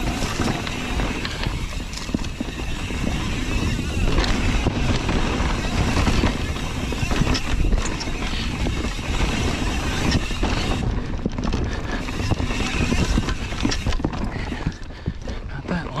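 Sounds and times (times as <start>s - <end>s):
wind on microphone: 0.0s - 15.4s
bike rattles and knocks: 0.0s - 16.0s.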